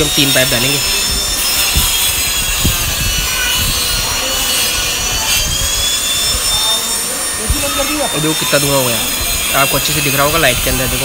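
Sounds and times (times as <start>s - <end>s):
cutting and scraping ceiling: 0.0s - 11.0s
high whine: 0.0s - 11.0s.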